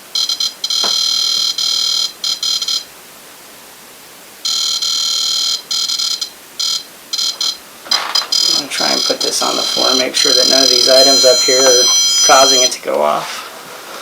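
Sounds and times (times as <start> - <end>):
shrill electronic alarm: 0.0 - 2.9, 4.4 - 13.2.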